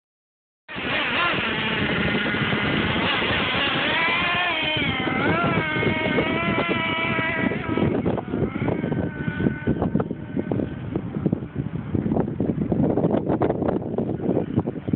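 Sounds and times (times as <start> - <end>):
model engine buzzing and revving: 0.7 - 14.9.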